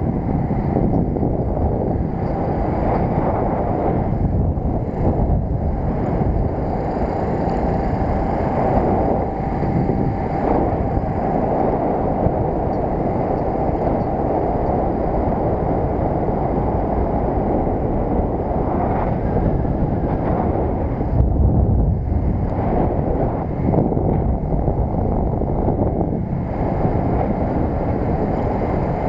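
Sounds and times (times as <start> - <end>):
motorbike engine running: 0.0 - 29.0
wind rushing over microphone: 0.0 - 29.0.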